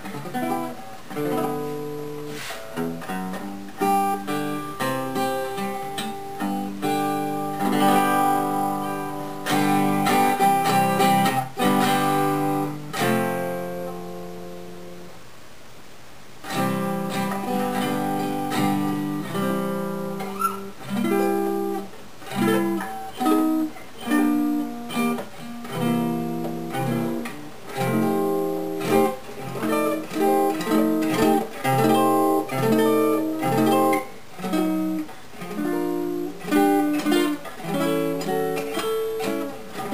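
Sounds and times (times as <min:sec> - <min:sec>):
acoustic guitar strumming and picking: 0:00.0 - 0:15.1, 0:16.4 - 0:39.9.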